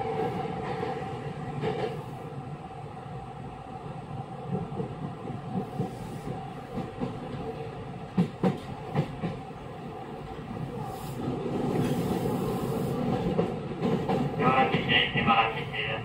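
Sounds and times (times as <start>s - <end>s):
train interior hum: 0.0s - 16.0s.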